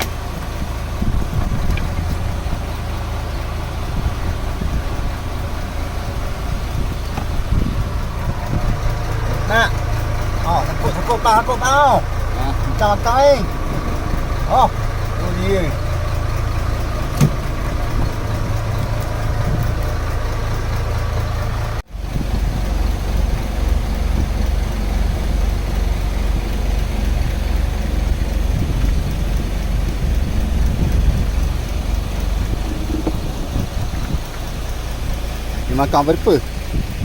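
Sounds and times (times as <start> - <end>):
boat engine idling: 0.0 - 37.0.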